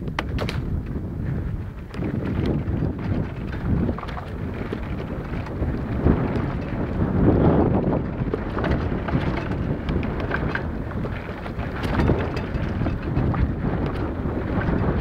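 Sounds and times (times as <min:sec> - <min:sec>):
bike clicking and rattling: 0:00.0 - 0:15.0
wind buffeting microphone: 0:00.0 - 0:15.0.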